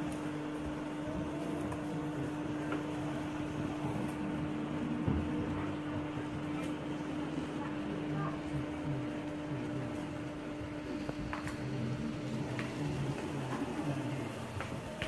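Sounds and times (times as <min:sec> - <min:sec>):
hall background noise: 0:00.0 - 0:15.0
steady electric hum: 0:00.0 - 0:15.0.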